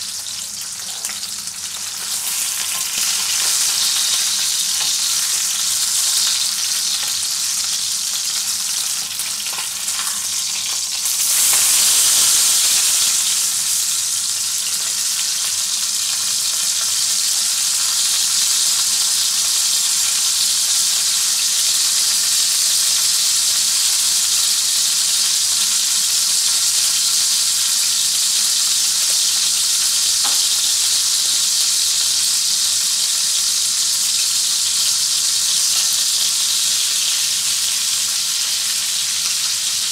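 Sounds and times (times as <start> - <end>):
steak sizzling in frying pan: 0.0 - 39.9.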